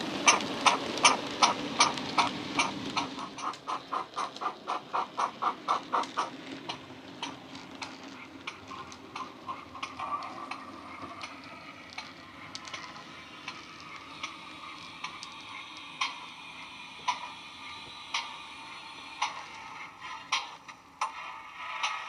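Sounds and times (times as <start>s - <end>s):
steam locomotive chuffs from small speaker: 0.0s - 22.0s.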